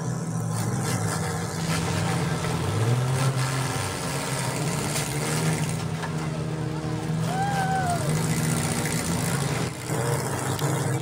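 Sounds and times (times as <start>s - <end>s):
car engines running: 0.0s - 11.0s
engine revving: 0.0s - 11.0s.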